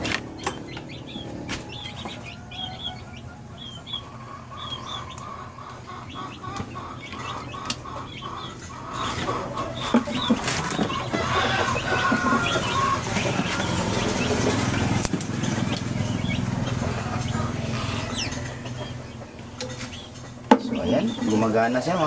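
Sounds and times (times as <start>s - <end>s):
bird chirping: 0.0s - 22.0s
chicken clucking: 0.0s - 22.0s.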